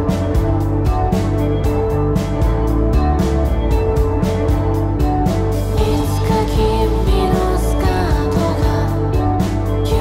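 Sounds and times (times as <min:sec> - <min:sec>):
electric bass: 0:00.0 - 0:10.0
electric guitar: 0:00.0 - 0:10.0.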